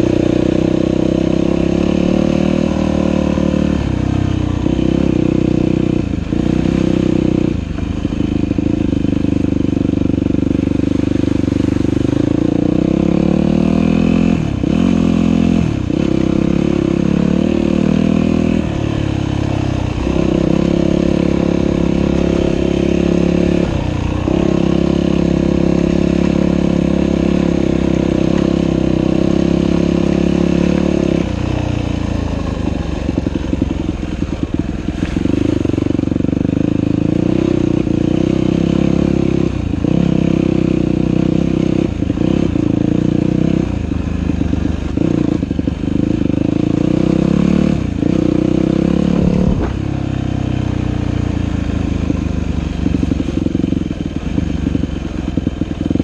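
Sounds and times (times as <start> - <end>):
dirt bike engine revving: 0.0 - 7.5, 8.4 - 56.0.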